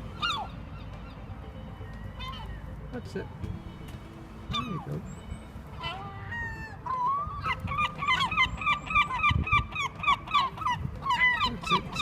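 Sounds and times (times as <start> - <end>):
seagulls calling: 0.0 - 12.0.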